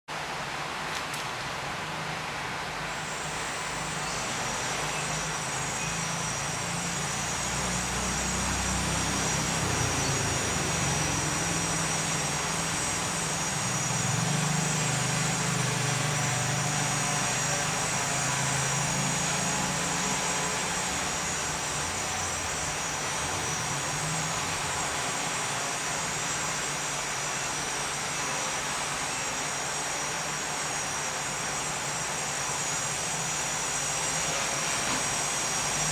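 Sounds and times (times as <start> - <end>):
high whine: 0.1 - 35.9
aircraft propeller engine: 0.2 - 35.9.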